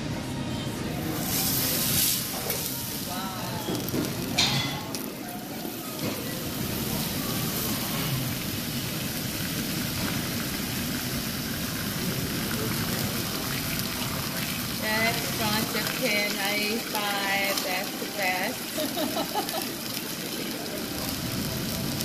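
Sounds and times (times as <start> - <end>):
beef sizzling on a grill: 0.9 - 22.0.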